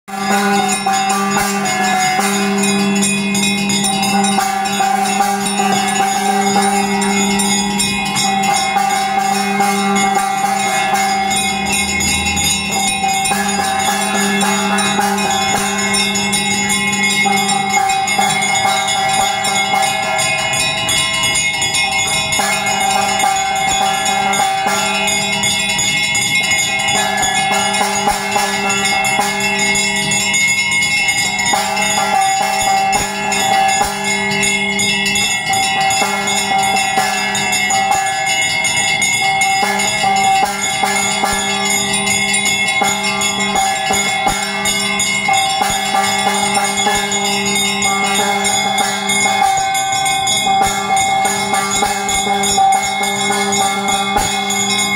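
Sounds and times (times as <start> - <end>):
bells ringing rapidly: 0.0 - 54.9.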